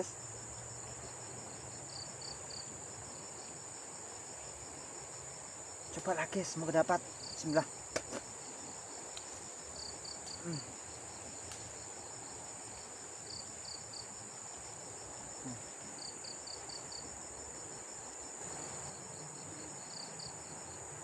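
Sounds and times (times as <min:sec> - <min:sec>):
insect chirps: 0:00.0 - 0:21.0
insects droning: 0:00.0 - 0:21.0.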